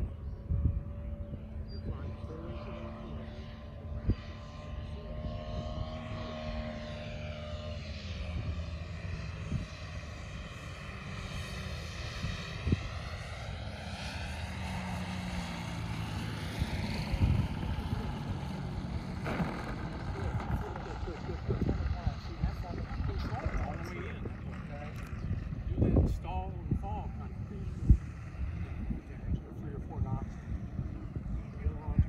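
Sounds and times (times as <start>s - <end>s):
model airplane engine droning: 0.0s - 32.0s.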